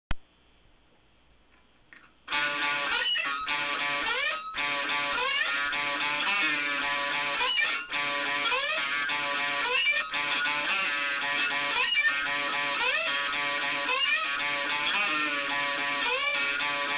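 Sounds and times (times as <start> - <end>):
distorted slide guitar blues riff: 2.3 - 16.9.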